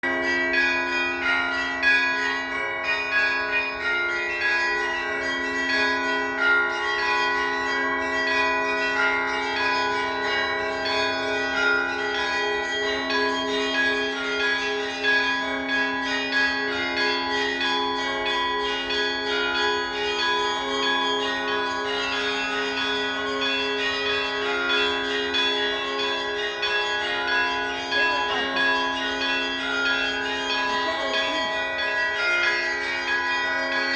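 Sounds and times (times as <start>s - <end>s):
bells ringing together: 0.0s - 33.9s.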